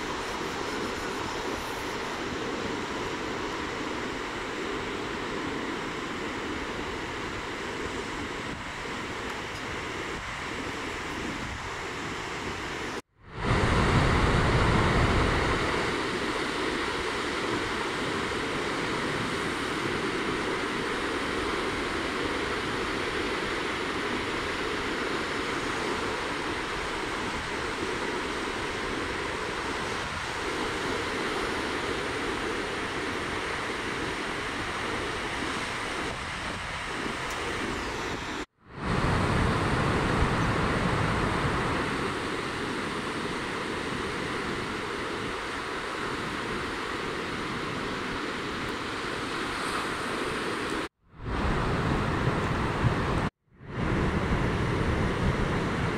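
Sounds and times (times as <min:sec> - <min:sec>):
ocean surf breaking: 0:00.0 - 0:55.9
wind rumble on microphone: 0:00.0 - 0:55.9.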